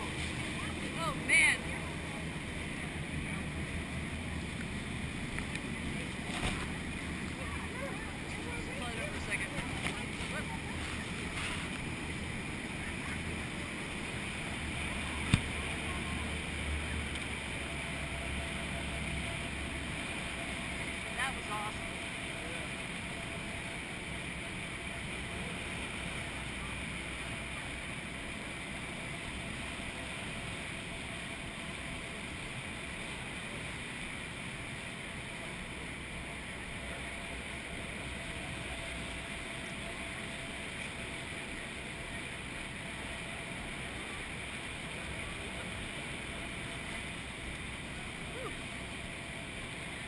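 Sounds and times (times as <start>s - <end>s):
churning water around boat: 0.0s - 50.0s
waterfall roaring: 0.0s - 50.0s.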